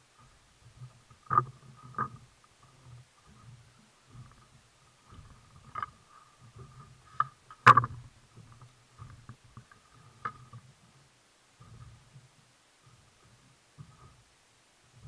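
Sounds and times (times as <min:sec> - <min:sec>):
water against kayak hull: 0:00.0 - 0:15.0.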